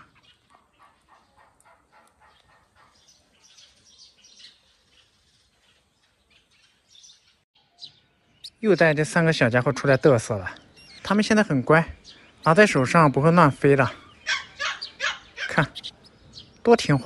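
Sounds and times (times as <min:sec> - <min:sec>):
young bulbuls chirping: 0:00.0 - 0:17.0.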